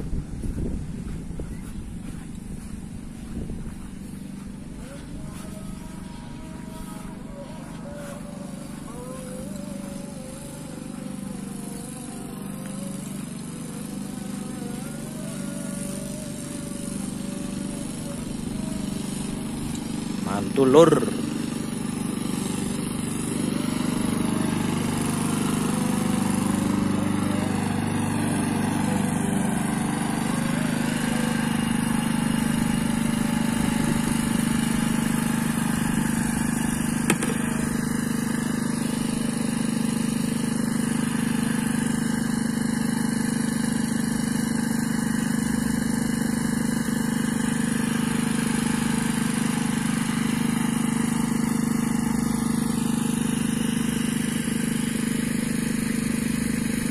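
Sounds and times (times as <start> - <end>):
lawn mower engine running: 0.0 - 56.9.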